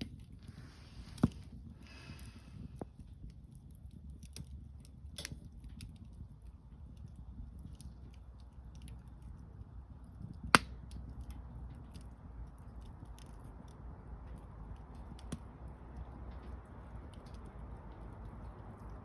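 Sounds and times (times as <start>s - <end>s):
burning wood popping: 0.0s - 19.0s
campfire crackling: 0.0s - 19.0s
low steady rumble: 0.0s - 19.0s.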